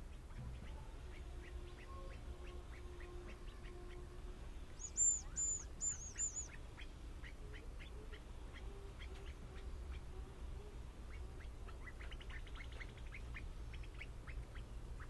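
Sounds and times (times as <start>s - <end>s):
grouse whistling song: 0.1s - 4.1s, 4.7s - 15.0s.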